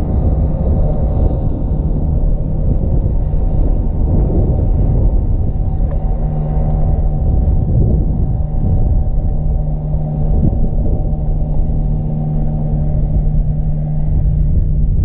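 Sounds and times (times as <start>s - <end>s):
outboard motor rumbling: 0.0s - 15.0s.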